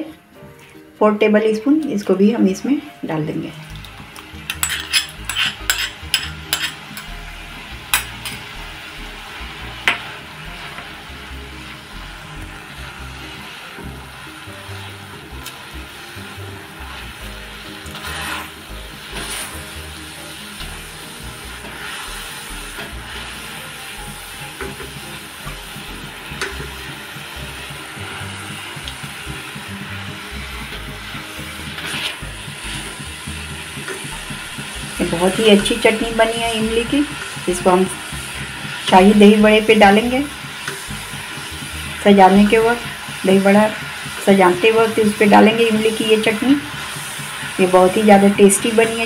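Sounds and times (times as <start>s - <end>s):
sauce sizzling: 0.0s - 49.0s
spatula scraping a wok: 4.3s - 49.0s.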